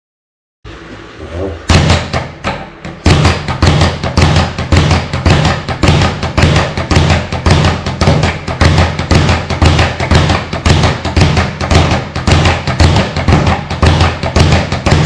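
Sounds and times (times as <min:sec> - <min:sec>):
speed bag rattling under punches: 0:01.9 - 0:15.0.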